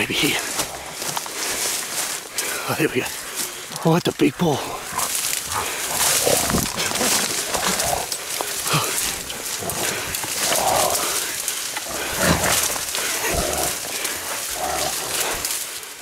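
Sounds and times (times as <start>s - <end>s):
grass rustling against microphone: 0.0s - 16.0s.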